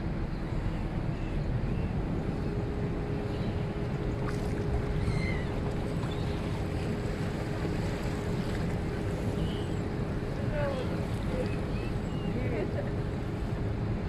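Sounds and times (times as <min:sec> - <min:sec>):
boat motor hum: 0:00.0 - 0:14.0
water rushing past hull: 0:00.9 - 0:14.0.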